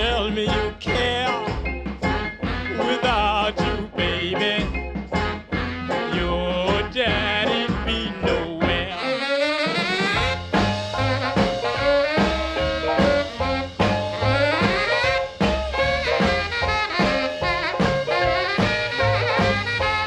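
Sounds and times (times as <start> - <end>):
bass line: 0.0 - 20.0
drums: 0.0 - 20.0
horns playing: 2.0 - 20.0.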